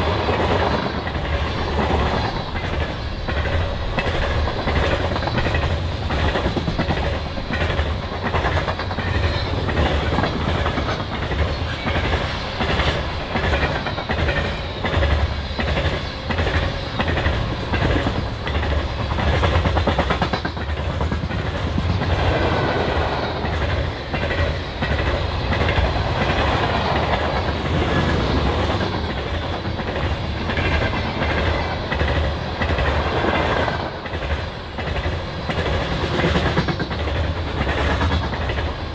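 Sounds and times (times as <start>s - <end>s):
train rumbling past: 0.0s - 38.9s
wheels clickety-clack on rail joints: 0.0s - 38.9s.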